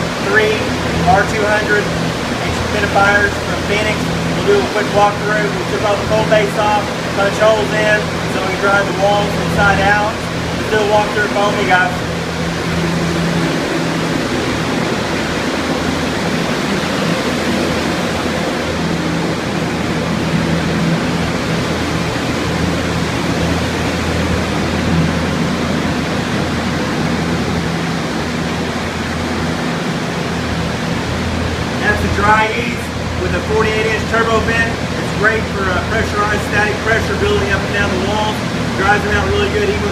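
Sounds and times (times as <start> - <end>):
low motor hum: 0.0 - 39.9.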